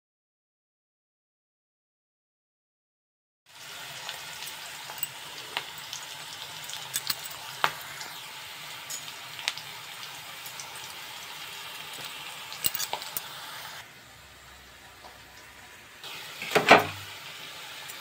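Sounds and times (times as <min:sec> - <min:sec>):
onions sizzling in hot oil: 0:03.5 - 0:18.0.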